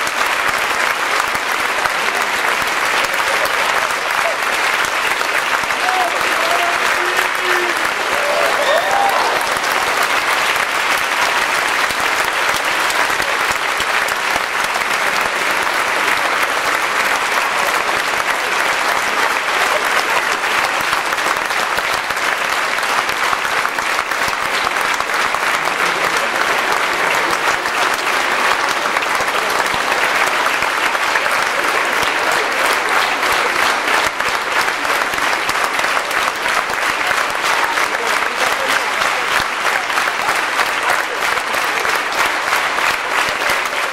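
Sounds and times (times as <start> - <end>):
audience applauding: 0.0 - 43.9.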